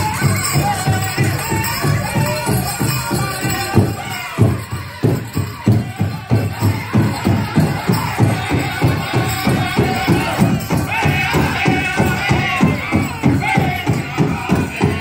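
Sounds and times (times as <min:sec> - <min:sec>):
big drum fast steady beat: 0:00.0 - 0:15.0
singers high wavering voices: 0:00.0 - 0:15.0.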